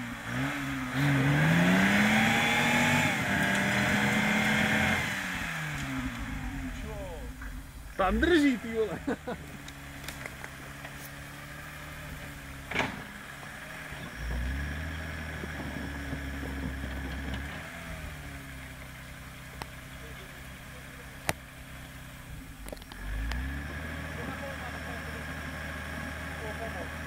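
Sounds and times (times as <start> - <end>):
tractor engine revving: 0.0 - 27.0.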